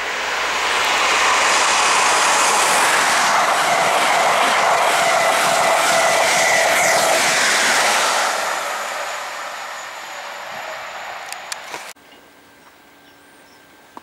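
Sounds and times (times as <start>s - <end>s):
steady whine: 0.0s - 12.0s
train passing at speed: 0.0s - 12.0s.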